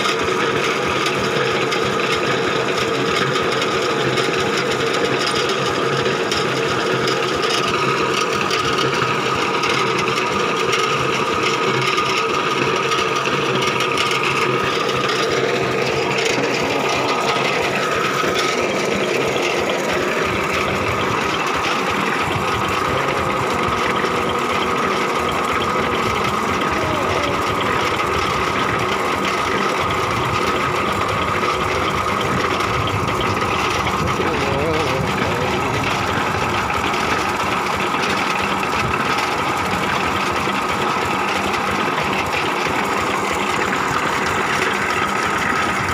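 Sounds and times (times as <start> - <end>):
borewell rig machinery rattling: 0.0 - 45.9
steady whine: 5.4 - 45.9.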